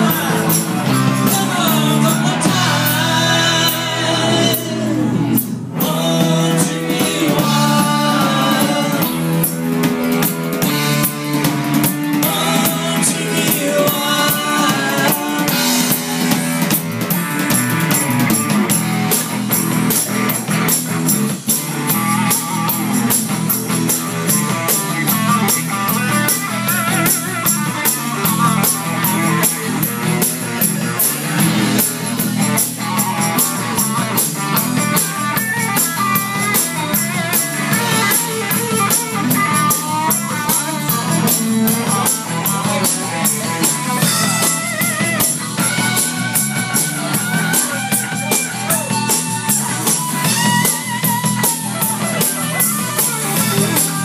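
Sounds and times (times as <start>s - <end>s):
drum kit beat: 0.0s - 54.0s
guitar: 0.0s - 54.0s
live rock band playing: 0.0s - 54.0s.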